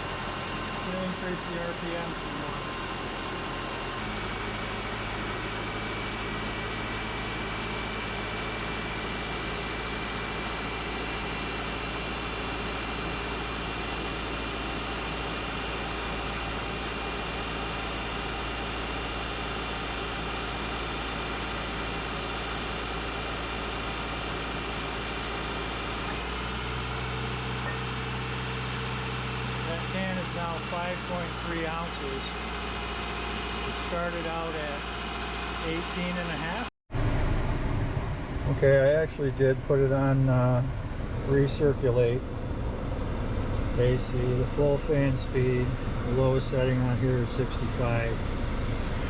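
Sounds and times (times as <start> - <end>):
car engine at raised idle: 0.0 - 49.0.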